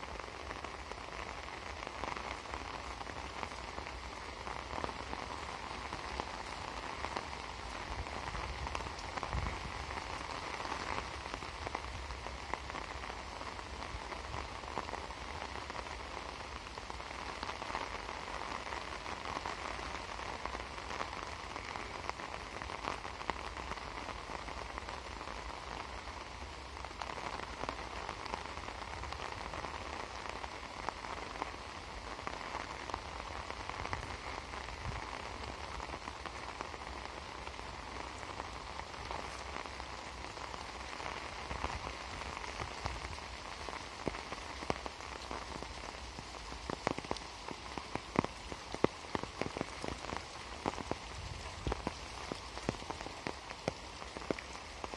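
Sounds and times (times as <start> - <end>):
rain on an umbrella: 0.0 - 54.9
rain on leaves: 0.0 - 54.9.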